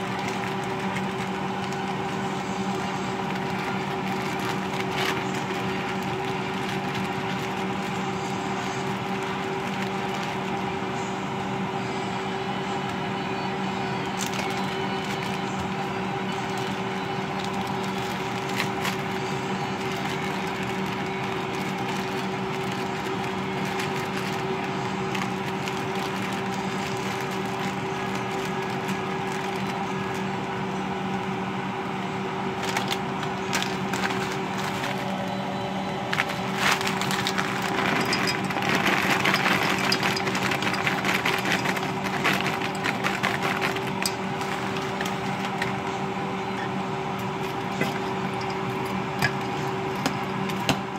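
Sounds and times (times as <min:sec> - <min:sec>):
plastic bags crinkling: 0:00.0 - 0:10.8, 0:14.0 - 0:30.6, 0:32.6 - 0:35.4, 0:36.0 - 0:46.0, 0:47.4 - 0:50.7
steady low hum: 0:00.0 - 0:50.9.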